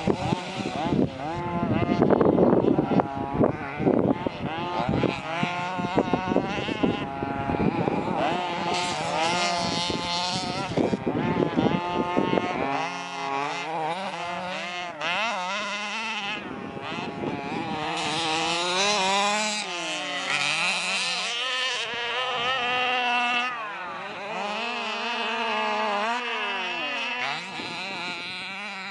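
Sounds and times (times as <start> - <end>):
small buggy engine revving: 0.0 - 28.9.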